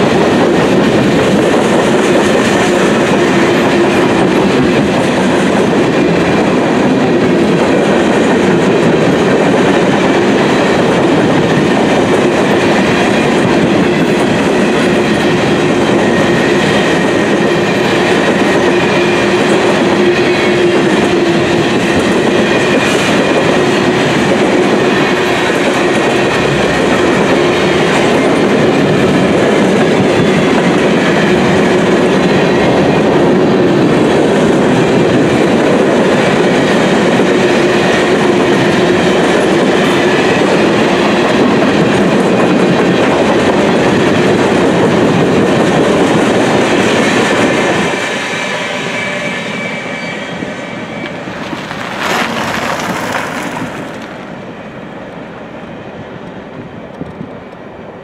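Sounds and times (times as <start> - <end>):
freight train wheels clattering: 0.0 - 54.4.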